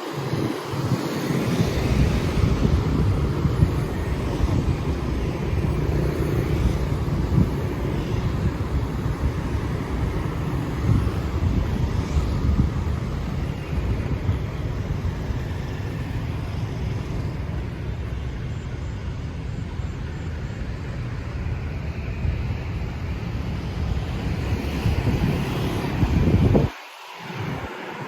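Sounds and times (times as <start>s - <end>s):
wind buffeting microphone: 0.0s - 28.0s
road traffic rumble: 0.2s - 28.0s.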